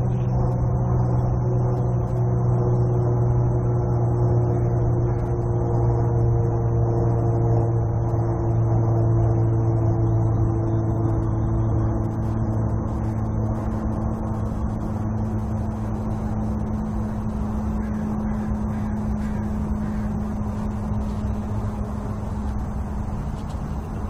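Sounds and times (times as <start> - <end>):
distant drone propeller hum: 0.0 - 24.0
road traffic noise: 0.0 - 24.0.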